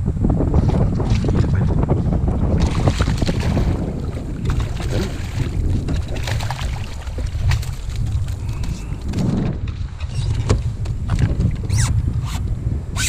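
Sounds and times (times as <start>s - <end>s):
wind buffeting microphone: 0.0s - 13.0s
water splashing and lapping: 0.6s - 1.7s, 2.4s - 11.9s.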